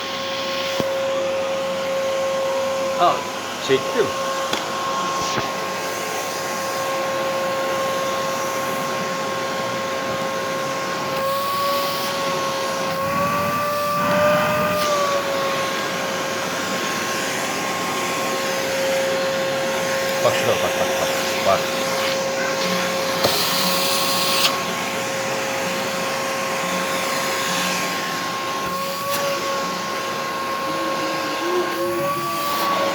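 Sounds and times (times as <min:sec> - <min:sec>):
vacuum cleaner motor whining: 0:00.0 - 0:32.9.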